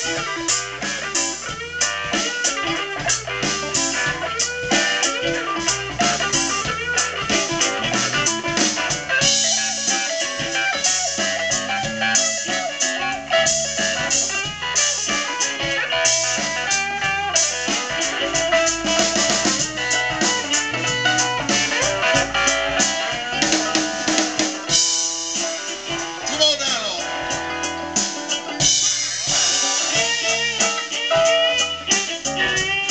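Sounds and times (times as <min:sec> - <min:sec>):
drums: 0:00.0 - 0:32.9
electric guitar: 0:00.0 - 0:32.9
live blues band playing: 0:00.0 - 0:32.9.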